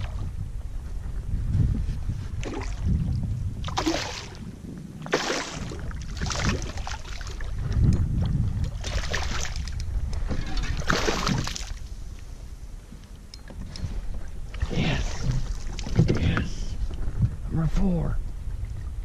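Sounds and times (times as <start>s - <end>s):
steady low rumble: 0.0s - 5.1s, 5.7s - 19.0s.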